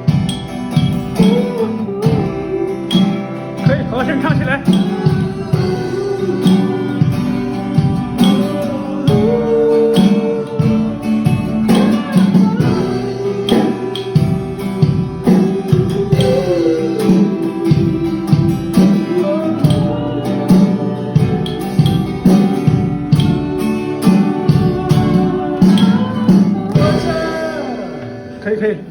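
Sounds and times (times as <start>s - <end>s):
steady beat: 0.0s - 28.9s
strummed guitar chords: 0.0s - 28.9s.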